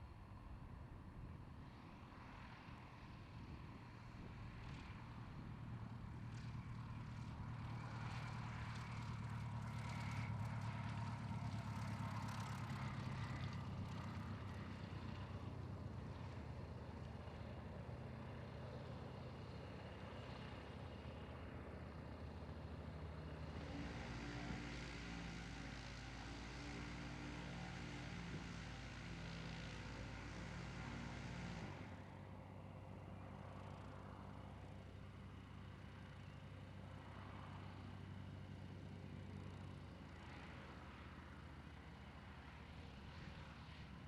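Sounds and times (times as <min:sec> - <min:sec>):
propeller aircraft engine running: 0:00.0 - 0:44.0.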